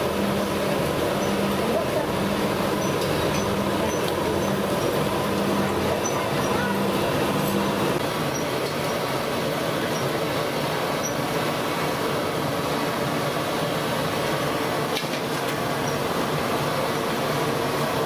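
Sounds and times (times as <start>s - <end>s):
deep-frying oil sizzling: 0.0s - 18.0s.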